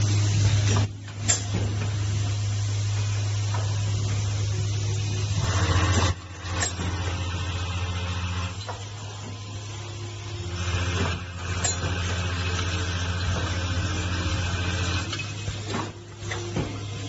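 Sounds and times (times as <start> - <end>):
machine hiss: 0.0 - 17.0
welding machine humming: 0.0 - 17.0.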